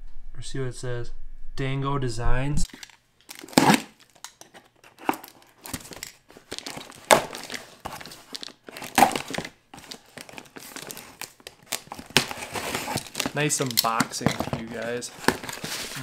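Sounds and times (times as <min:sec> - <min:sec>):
packaging crinkling and tearing: 0:02.7 - 0:16.0.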